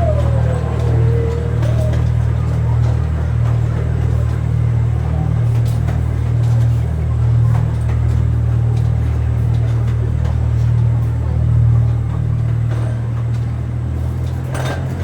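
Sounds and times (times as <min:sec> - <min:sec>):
train engine drone: 0:00.0 - 0:14.1
train rolling rumble: 0:00.0 - 0:15.0.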